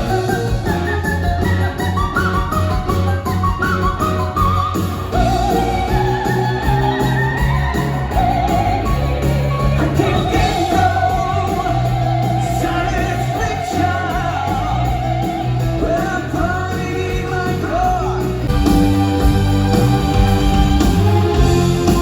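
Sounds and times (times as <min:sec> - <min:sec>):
band with bass and drums: 0:00.0 - 0:22.0
guitar: 0:00.0 - 0:22.0.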